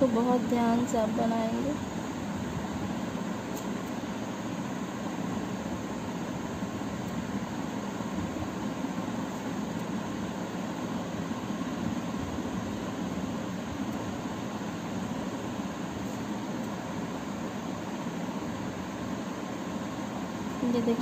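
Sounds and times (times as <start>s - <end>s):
low droning background noise: 0.0s - 21.0s.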